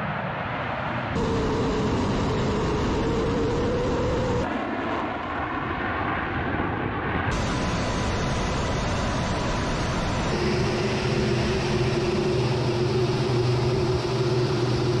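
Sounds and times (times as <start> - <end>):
fighter jet engines running: 0.0 - 15.0.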